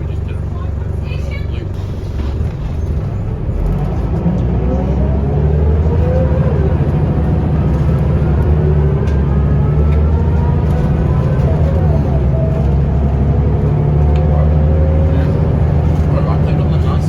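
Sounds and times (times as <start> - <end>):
bus diesel engine accelerating: 0.0 - 17.0.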